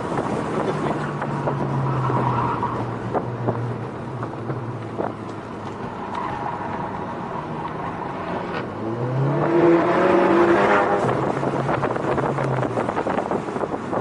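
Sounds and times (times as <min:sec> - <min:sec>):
road and wind noise: 0:00.0 - 0:14.0.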